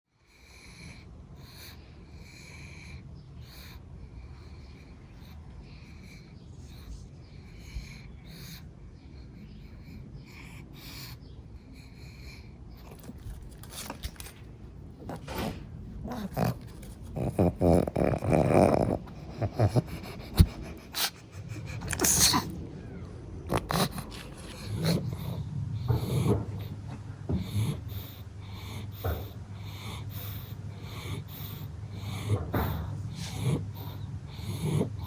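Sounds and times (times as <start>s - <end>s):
dog nasal breathing while asleep: 0.2s - 22.7s, 23.4s - 35.0s.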